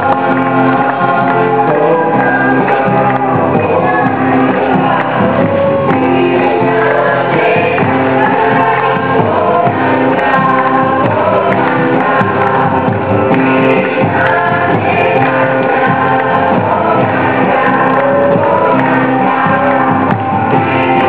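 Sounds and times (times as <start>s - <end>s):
voices singing a devotional song: 0.0s - 21.0s.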